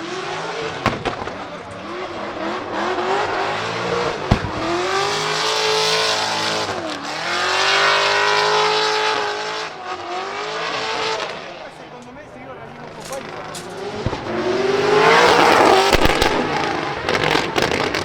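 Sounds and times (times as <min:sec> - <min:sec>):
engine revving hard: 0:00.0 - 0:11.6, 0:13.2 - 0:18.0
exhaust crack: 0:00.6 - 0:09.9, 0:10.7 - 0:18.0.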